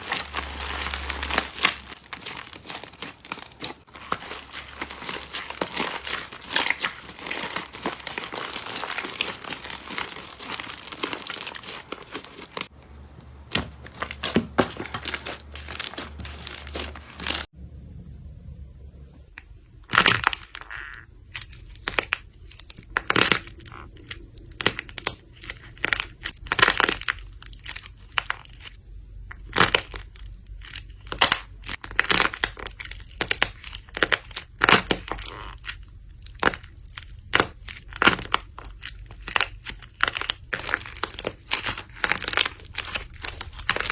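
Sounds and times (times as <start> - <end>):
slime crackling: 0.0 - 17.5, 19.9 - 28.7, 29.4 - 43.9.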